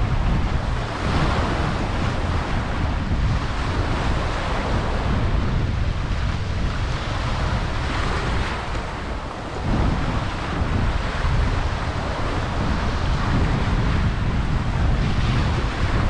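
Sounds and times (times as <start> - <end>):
rough surf: 0.0 - 16.0
wind buffeting microphone: 0.0 - 16.0.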